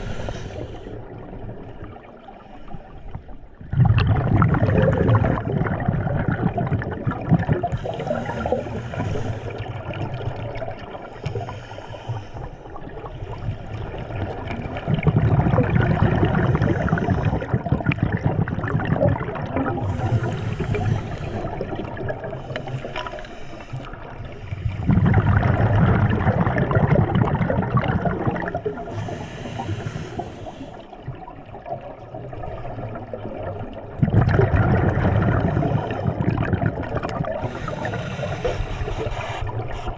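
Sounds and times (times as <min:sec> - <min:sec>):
exhaled bubbles rumbling underwater: 0:00.0 - 0:39.9.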